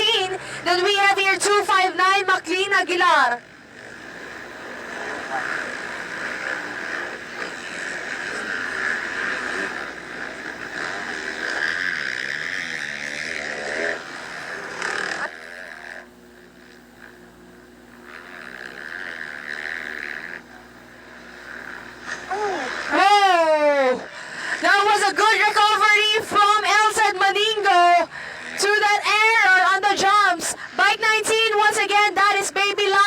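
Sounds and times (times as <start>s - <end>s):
motocross bike engines revving: 0.0s - 33.0s
steady low hum: 0.0s - 33.0s.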